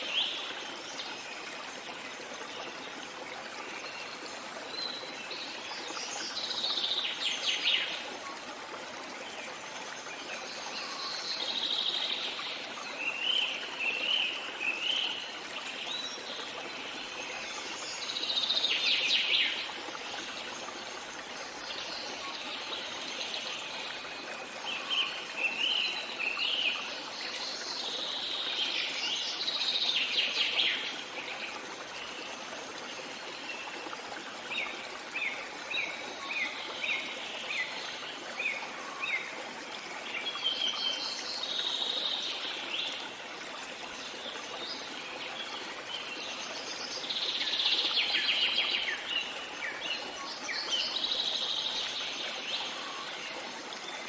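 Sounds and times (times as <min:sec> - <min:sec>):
running stream: 0:00.0 - 0:54.0.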